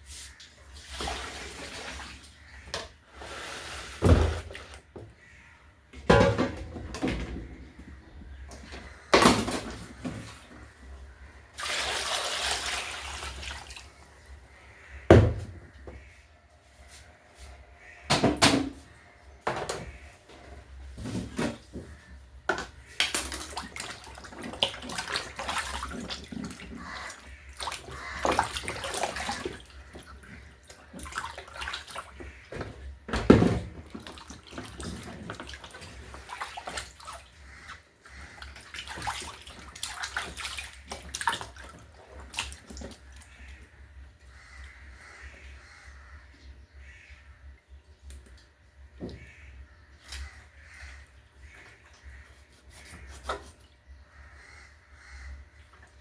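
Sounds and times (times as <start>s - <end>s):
water splashing in a basin: 0.2s - 5.5s, 6.1s - 15.1s, 21.0s - 46.1s, 48.1s - 56.0s.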